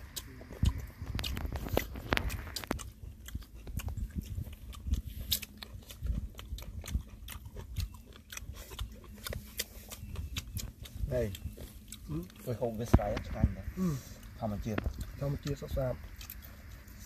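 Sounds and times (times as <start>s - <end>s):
man chewing crunchy food: 0.0s - 17.0s.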